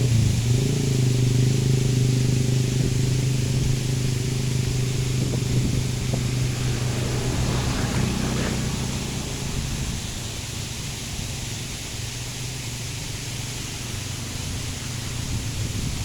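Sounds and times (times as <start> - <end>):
engine humming steadily: 0.0 - 16.0
hiss: 0.0 - 16.0.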